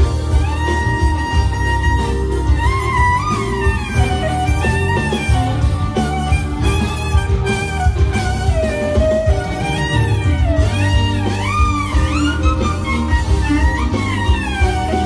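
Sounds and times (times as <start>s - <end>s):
band accompaniment with steady beat: 0.0s - 15.0s
clarinet melody with pitch bends: 0.0s - 15.0s.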